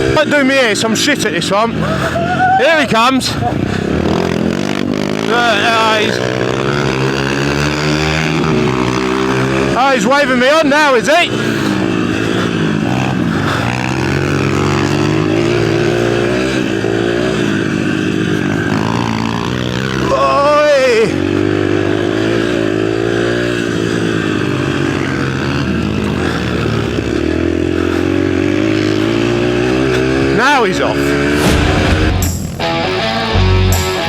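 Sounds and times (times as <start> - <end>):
mini bike engine running: 0.0 - 34.0.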